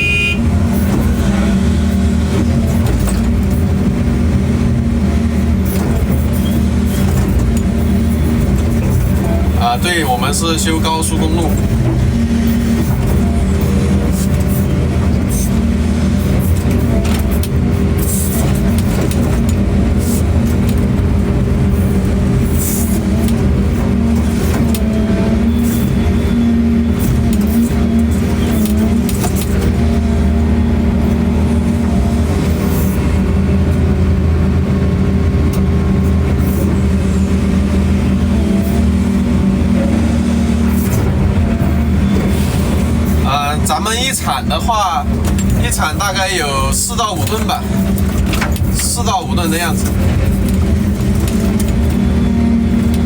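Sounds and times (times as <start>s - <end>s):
excavator diesel engine drone: 0.0s - 53.0s.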